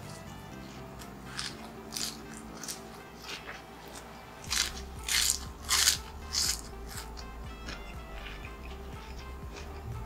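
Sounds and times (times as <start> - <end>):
crispy food crunching while chewed: 0.0 - 9.9.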